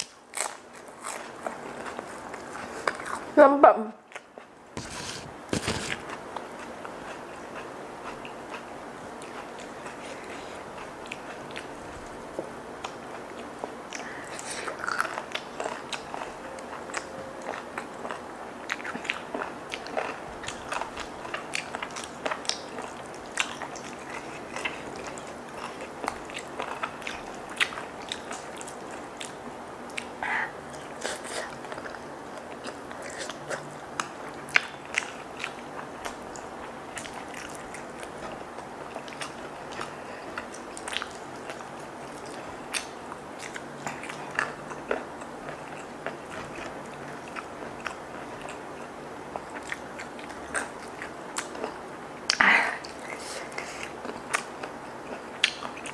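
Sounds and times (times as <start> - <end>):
chewing and biting: 0.0 - 3.3, 5.6 - 55.9.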